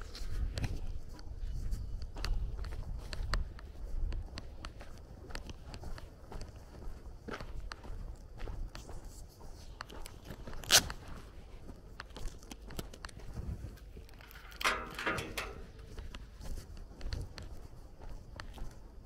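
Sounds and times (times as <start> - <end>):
footsteps on gravel: 0.0 - 19.0.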